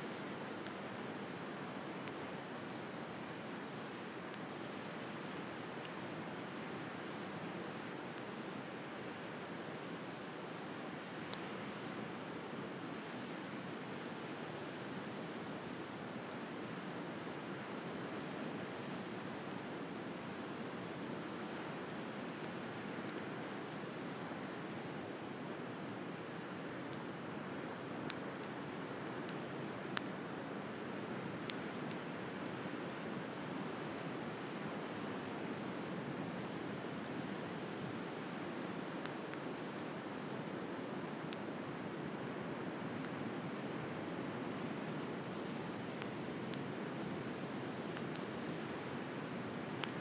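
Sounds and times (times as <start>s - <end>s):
bonfire crackling and popping: 0.0s - 50.0s.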